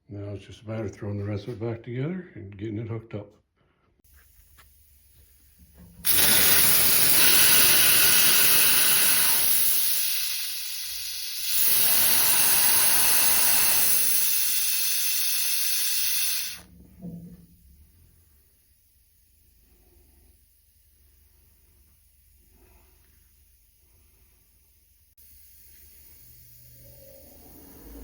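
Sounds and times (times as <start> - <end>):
compressed-air coolant mister hissing: 4.0 - 28.0.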